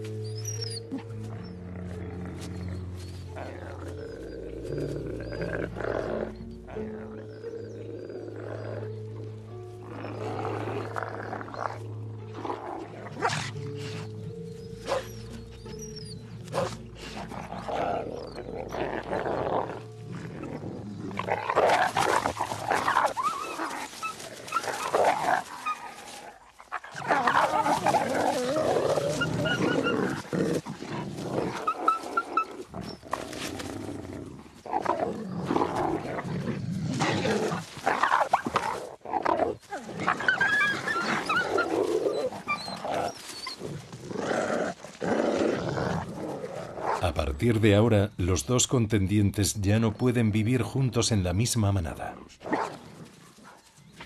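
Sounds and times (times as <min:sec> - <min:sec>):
wolves snarling and growling: 0:00.0 - 0:47.1, 0:52.1 - 0:54.0.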